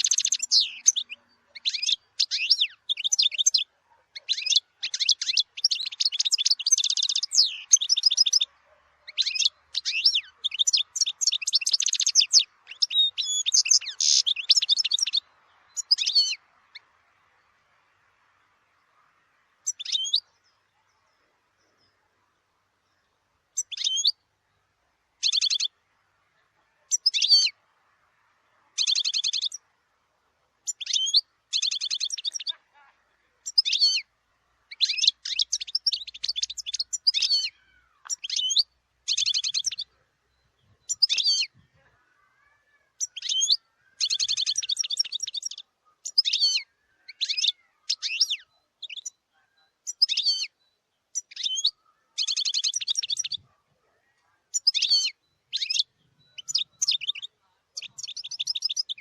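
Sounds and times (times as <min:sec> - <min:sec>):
finch singing twittering trills: 0:00.0 - 0:17.0, 0:19.6 - 0:22.1, 0:22.8 - 0:25.8, 0:26.7 - 0:27.6, 0:28.7 - 0:29.7, 0:30.6 - 0:59.0.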